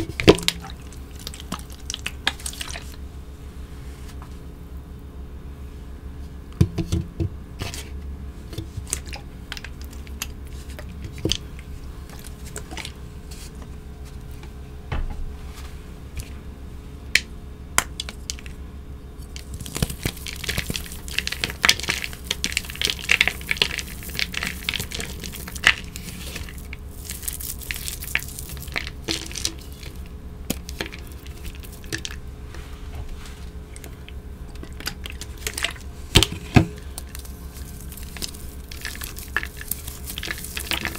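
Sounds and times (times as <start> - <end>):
wet chalk crackling and crumbling: 0.0 - 3.0, 7.6 - 14.5, 17.1 - 18.6, 19.2 - 40.9.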